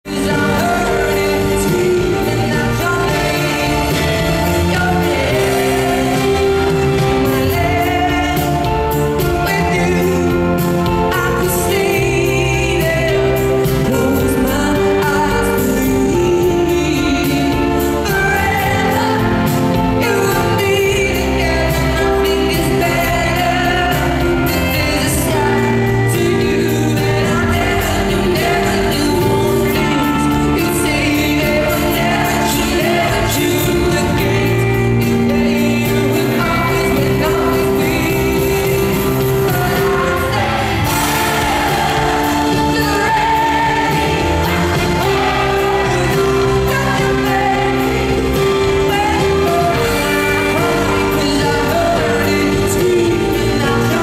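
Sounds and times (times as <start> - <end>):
band backing music: 0.0 - 54.0
woman singing pop ballad: 0.1 - 54.0.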